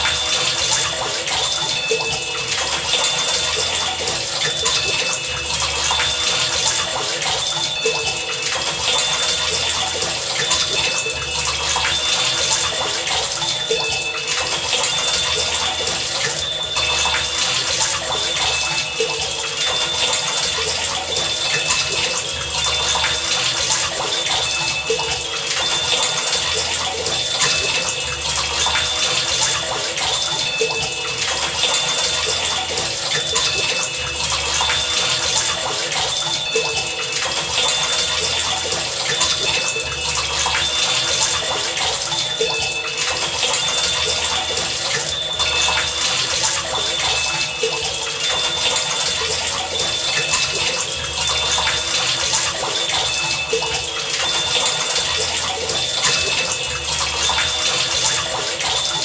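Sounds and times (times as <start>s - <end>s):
short high ringing tones: 0.0s - 59.0s.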